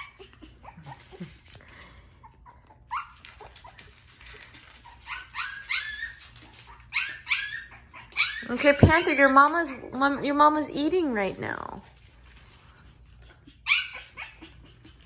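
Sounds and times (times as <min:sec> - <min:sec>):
puppies whining and yipping: 0:00.0 - 0:10.6, 0:12.9 - 0:15.0.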